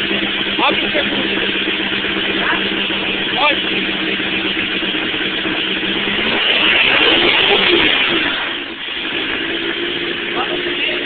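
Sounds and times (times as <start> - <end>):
car engine rumbling and revving: 0.0 - 11.0.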